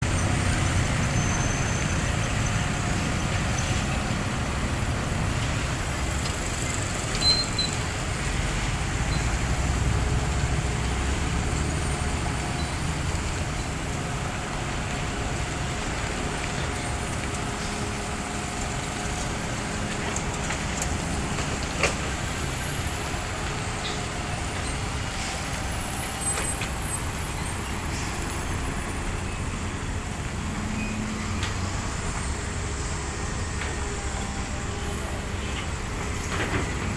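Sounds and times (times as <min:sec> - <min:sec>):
diesel engine rumble: 0:00.0 - 0:36.9.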